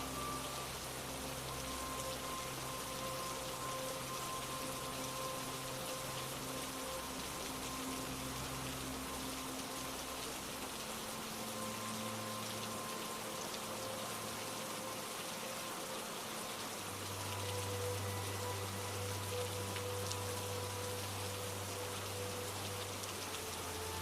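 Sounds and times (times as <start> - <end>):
rain falling: 0.0 - 24.0
soft held low notes: 0.0 - 24.0.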